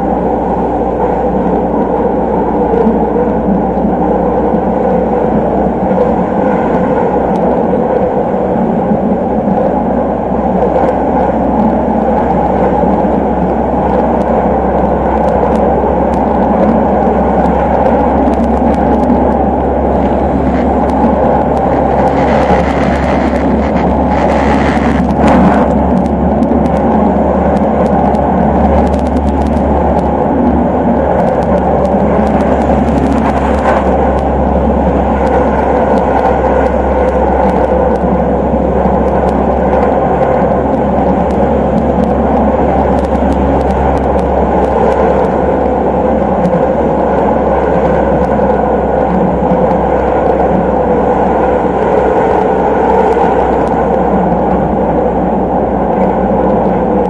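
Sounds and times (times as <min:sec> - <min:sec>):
low motor hum: 0:00.0 - 0:57.0
tram wheels rumbling on rails: 0:00.0 - 0:57.0.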